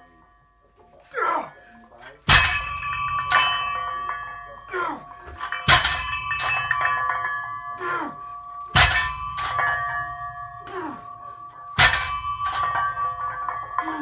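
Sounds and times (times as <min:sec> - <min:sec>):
weight plates ringing: 0:00.0 - 0:14.0.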